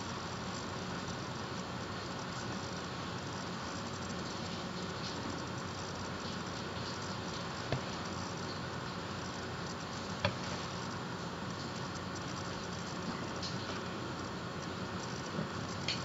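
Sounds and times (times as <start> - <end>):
room tone hiss: 0.0 - 16.0.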